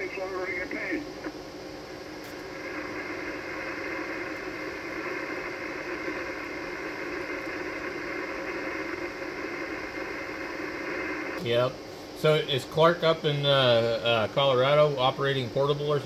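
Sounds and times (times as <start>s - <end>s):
faint steady tones: 0.0s - 16.0s
radio receiver static hiss: 0.0s - 16.0s.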